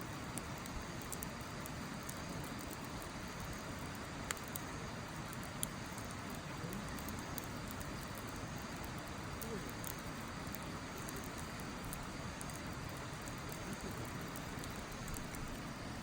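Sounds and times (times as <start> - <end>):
sharp pops of fire: 0.0 - 16.0
steady rushing hiss: 0.0 - 16.0
wood fire crackling: 0.0 - 16.0.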